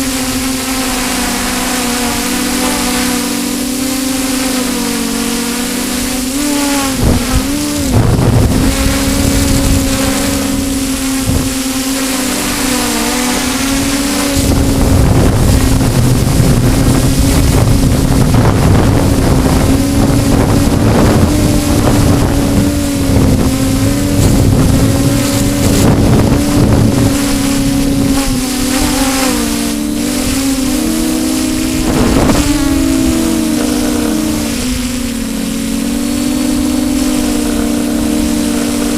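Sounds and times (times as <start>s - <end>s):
drone propellers whining: 0.0s - 38.9s
wind buffeting microphone: 0.0s - 38.9s.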